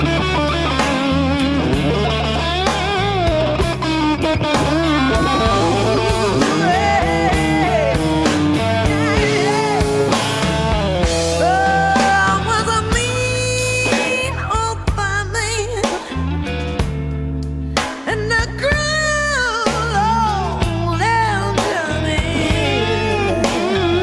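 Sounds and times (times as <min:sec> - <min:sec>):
lead guitar bent notes: 0:00.0 - 0:18.4, 0:20.2 - 0:24.0
blues-rock band playing: 0:00.0 - 0:24.0.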